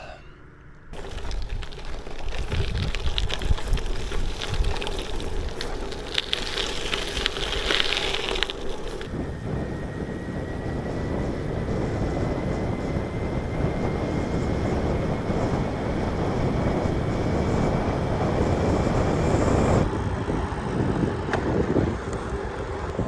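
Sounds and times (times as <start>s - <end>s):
wind rushing over microphone: 1.0s - 6.3s, 6.9s - 23.0s.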